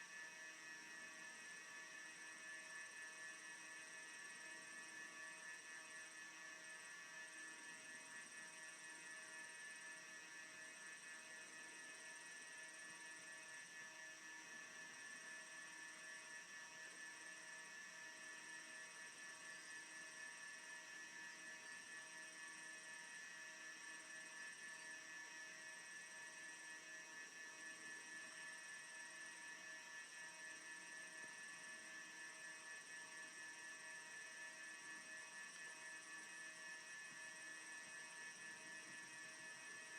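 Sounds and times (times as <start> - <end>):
faint electrical hum and whine: 0.0 - 39.9.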